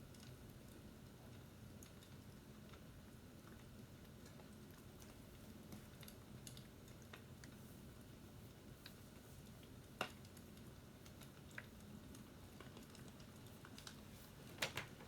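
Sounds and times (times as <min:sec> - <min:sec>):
fireplace crackling: 0:01.7 - 0:15.0.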